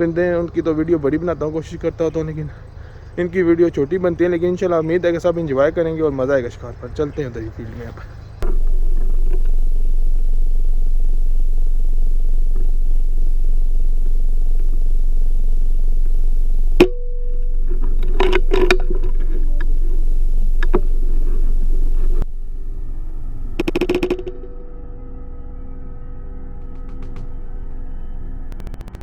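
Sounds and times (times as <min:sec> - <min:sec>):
vehicle engine and road noise: 0:00.0 - 0:24.8, 0:26.0 - 0:29.0.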